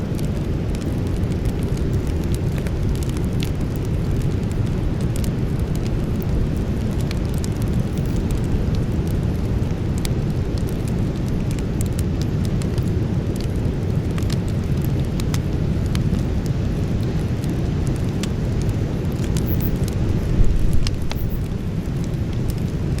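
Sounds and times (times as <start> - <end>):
campfire crackles and pops: 0.0 - 23.0
low rushing fire sound: 0.0 - 23.0.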